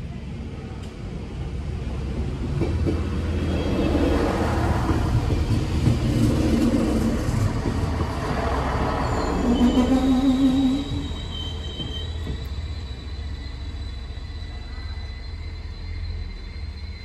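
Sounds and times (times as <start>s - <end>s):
train wheels on rails: 0.6s - 17.0s.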